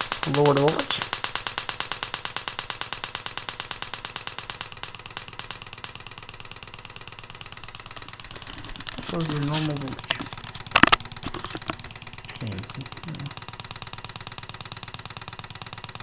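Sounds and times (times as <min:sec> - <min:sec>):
electric spark snapping: 0:00.0 - 0:16.0.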